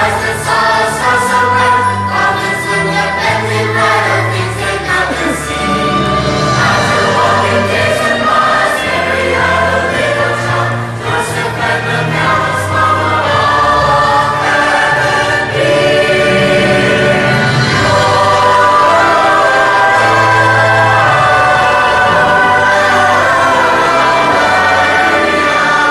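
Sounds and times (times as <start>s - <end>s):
choir singing gospel: 0.0s - 25.9s
instrumental accompaniment: 0.0s - 25.9s.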